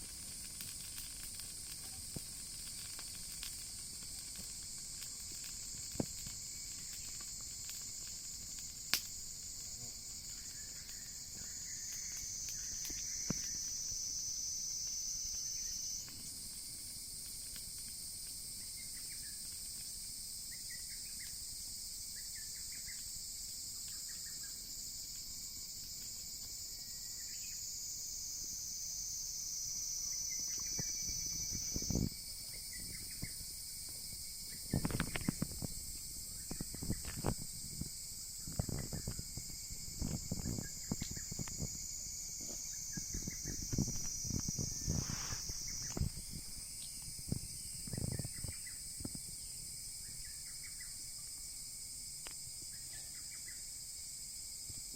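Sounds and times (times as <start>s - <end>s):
high-pitched insect chorus: 0.0s - 54.9s
wood fire crackling: 0.0s - 54.9s.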